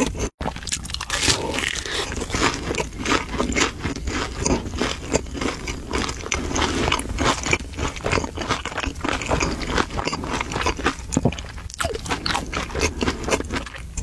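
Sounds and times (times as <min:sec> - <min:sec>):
crunchy chewing: 0:00.0 - 0:14.0
wet mouth sounds: 0:00.0 - 0:14.0.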